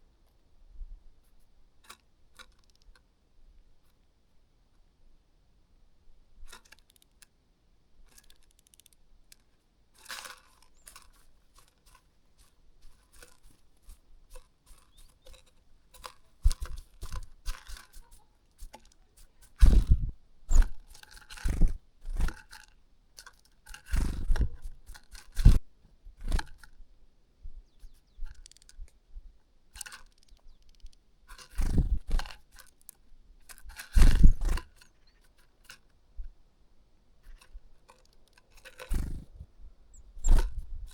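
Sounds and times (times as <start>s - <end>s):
bird pecking and scratching at food: 1.2s - 3.1s, 6.4s - 7.4s, 8.0s - 26.8s, 27.6s - 29.0s, 29.7s - 36.4s, 37.2s - 40.9s.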